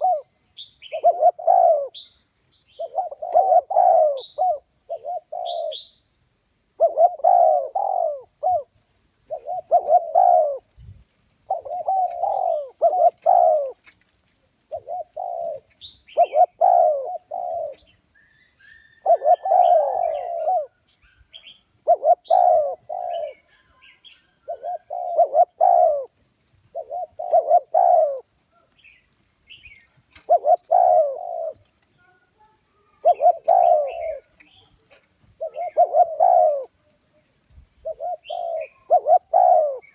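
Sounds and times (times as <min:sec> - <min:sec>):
dove cooing: 0:00.0 - 0:02.1, 0:02.7 - 0:06.0, 0:06.7 - 0:10.8, 0:11.4 - 0:14.0, 0:14.6 - 0:18.0, 0:18.6 - 0:37.0, 0:37.8 - 0:39.9
small birds chirping: 0:00.0 - 0:10.7, 0:11.4 - 0:39.9.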